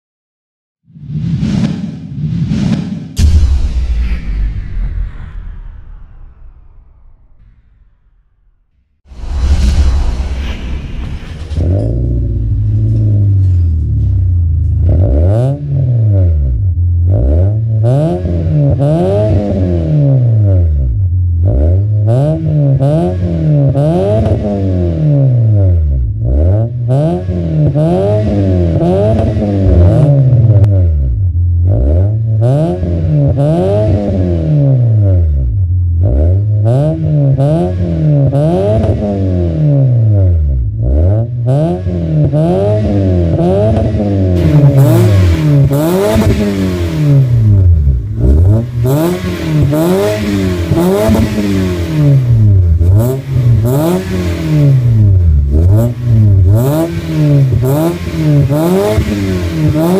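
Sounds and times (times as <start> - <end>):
car engine revving: 11.5 - 59.9.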